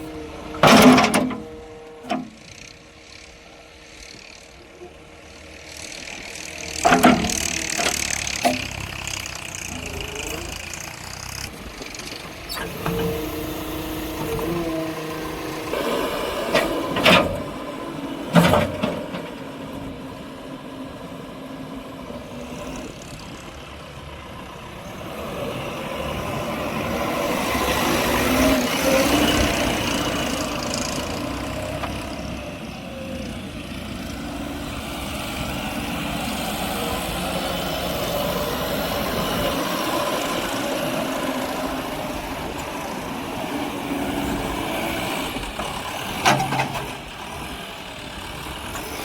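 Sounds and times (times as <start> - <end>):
heavy vehicle engine running: 0.0 - 49.0.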